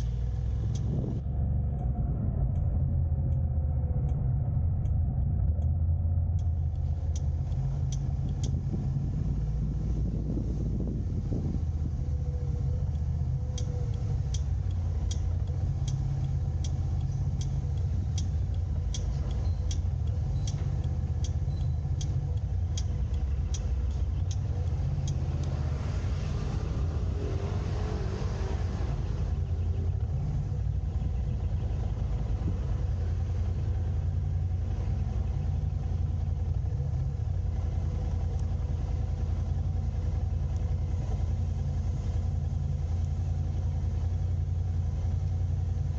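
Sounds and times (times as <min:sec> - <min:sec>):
car engine and road rumble: 0:00.0 - 0:45.9
regular ticking: 0:00.0 - 0:45.9.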